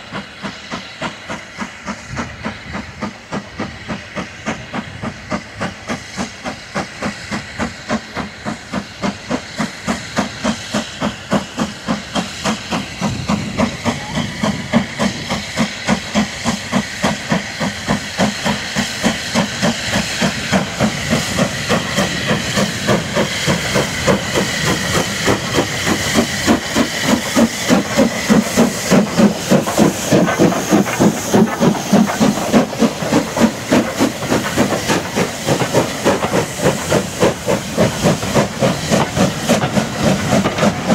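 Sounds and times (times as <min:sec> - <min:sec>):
hiss of steam: 0:00.0 - 0:40.9
steam locomotive exhaust beats: 0:00.0 - 0:40.9.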